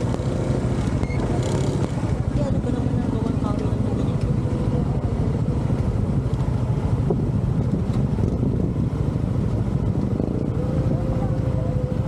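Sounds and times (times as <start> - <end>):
scooter engine running: 0.0 - 12.0
wind buffeting microphone: 0.0 - 12.0.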